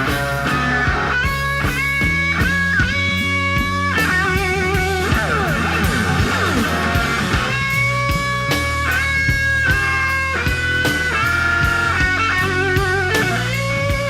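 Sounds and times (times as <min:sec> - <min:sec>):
bass line: 0:00.0 - 0:14.0
electric blues guitar solo: 0:00.0 - 0:14.0.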